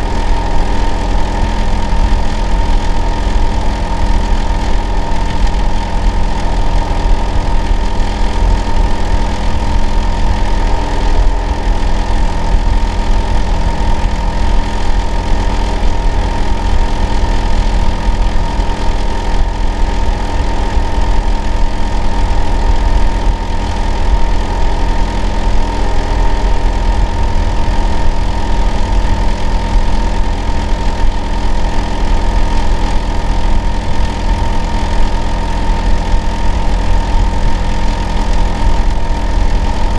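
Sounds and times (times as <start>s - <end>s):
steady whining tone: 0.0s - 39.9s.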